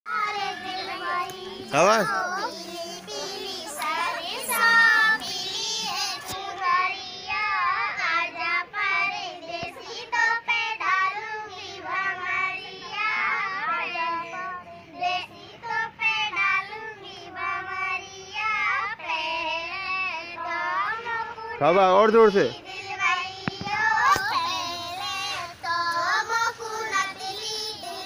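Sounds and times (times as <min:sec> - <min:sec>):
girl singing: 0:00.1 - 0:21.6, 0:22.6 - 0:28.0.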